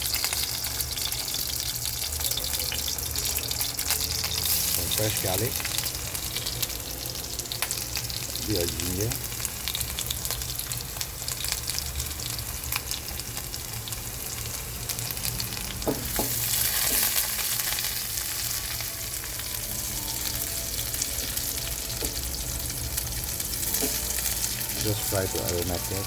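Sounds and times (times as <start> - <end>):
garlic sizzling in hot fat: 0.0 - 26.0.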